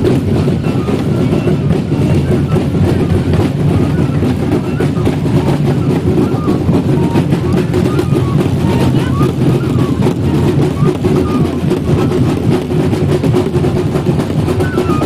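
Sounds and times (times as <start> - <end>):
flute playing high notes: 0.0 - 15.0
hand drums beating: 0.0 - 15.0
people talking: 0.4 - 13.3.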